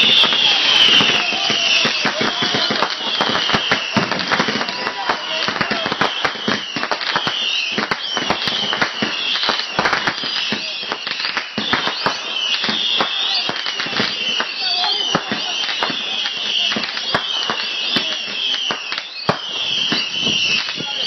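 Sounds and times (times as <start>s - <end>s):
fireworks bangs and crackles: 0.0s - 21.0s
fireworks whistling: 0.0s - 21.0s.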